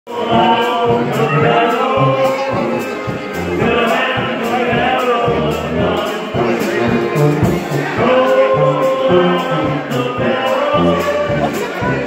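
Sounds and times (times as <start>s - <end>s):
polka music with singing: 0.1s - 12.0s.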